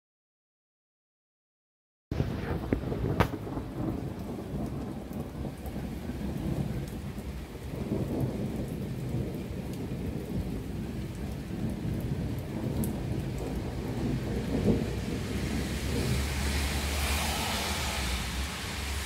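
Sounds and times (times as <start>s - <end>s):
heavy rain falling: 2.1s - 19.0s
rolling thunder rumble: 2.1s - 19.0s
raindrops ticking close by: 2.2s - 19.0s.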